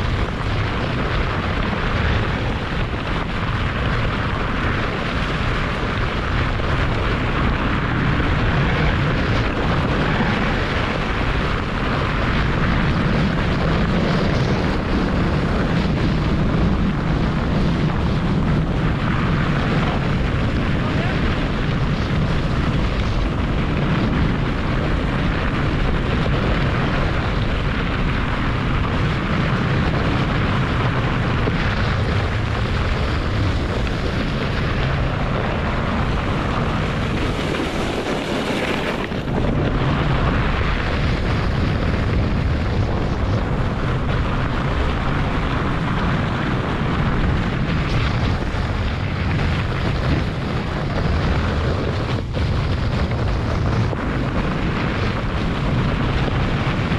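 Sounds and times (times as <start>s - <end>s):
sled runners rumbling on snow: 0.0s - 56.9s
wind on microphone: 0.0s - 56.9s.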